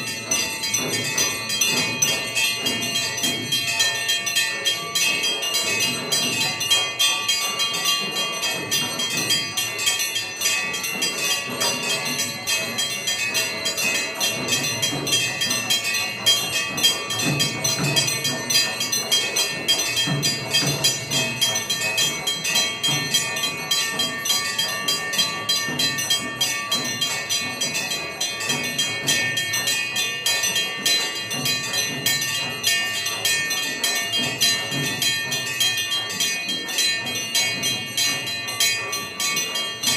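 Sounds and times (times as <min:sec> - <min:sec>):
temple bells clanging rapidly: 0:00.0 - 0:39.9.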